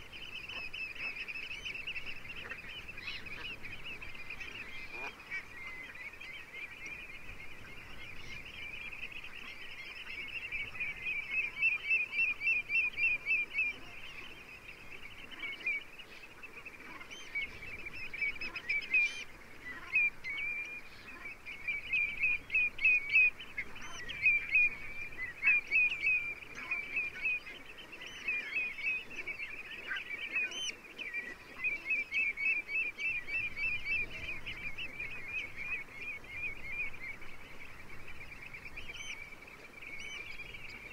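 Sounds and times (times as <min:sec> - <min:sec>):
faint wind: 0:00.0 - 0:40.9
waterbirds calling in chorus: 0:00.0 - 0:40.9.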